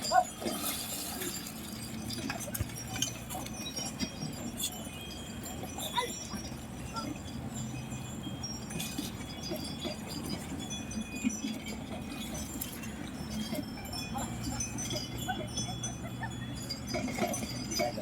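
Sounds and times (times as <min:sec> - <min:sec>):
small bells tinkling: 0:00.0 - 0:18.0.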